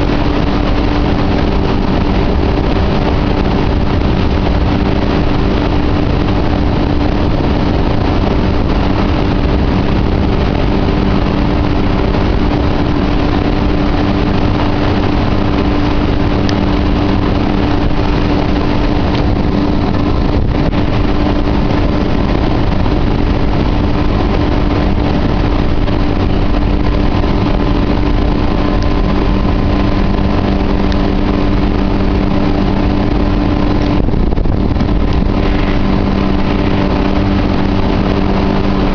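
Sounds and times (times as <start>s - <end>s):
outboard engine drone: 0.0s - 38.9s
rushing water noise: 0.0s - 38.9s.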